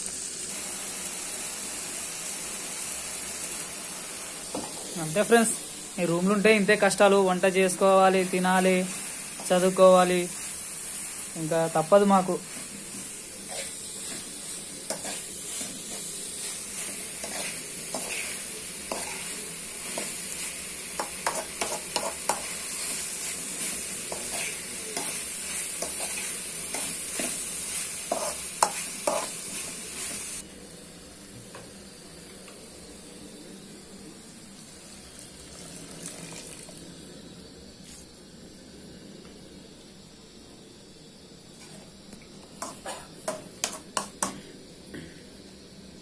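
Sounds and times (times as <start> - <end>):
prawns sizzling in a pan: 0.0 - 46.0.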